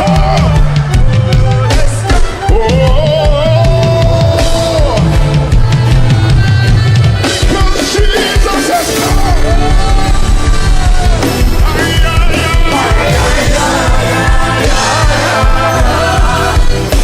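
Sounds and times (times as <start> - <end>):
band with bass and drums: 0.0 - 17.0
voices singing: 0.0 - 17.0.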